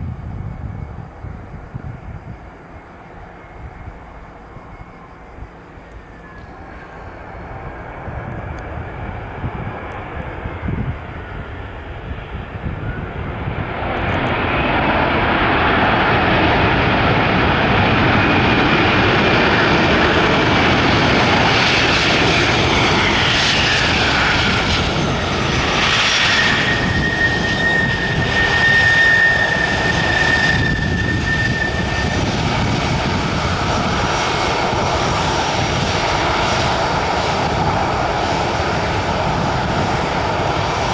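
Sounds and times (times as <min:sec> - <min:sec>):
jet engine whine: 0:00.0 - 0:40.9
jet engines roaring: 0:00.0 - 0:40.9.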